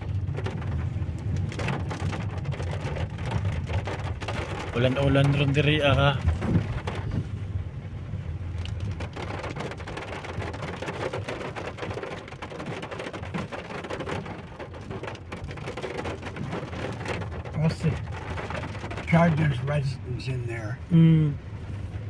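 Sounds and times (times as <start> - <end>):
low rumble: 0.0 - 10.8, 14.5 - 22.0
steady rain falling: 0.0 - 22.0.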